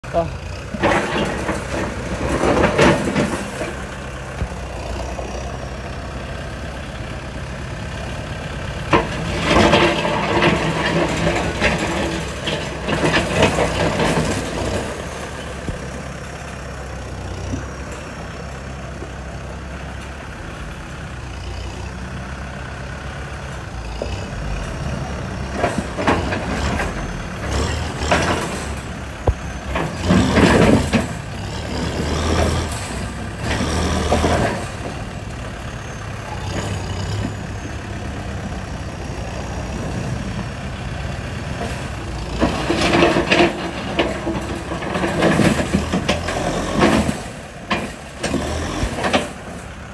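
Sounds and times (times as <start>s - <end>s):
diesel truck running: 0.0s - 49.9s.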